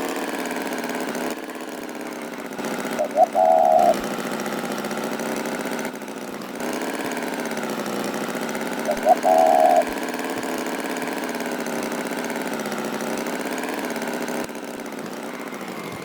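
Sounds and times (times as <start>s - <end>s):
engine-like running sound: 0.0s - 16.0s.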